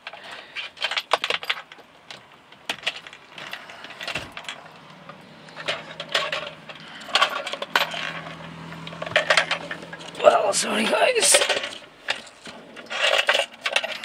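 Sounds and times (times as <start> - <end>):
keys and lock rattling: 0.0 - 14.0.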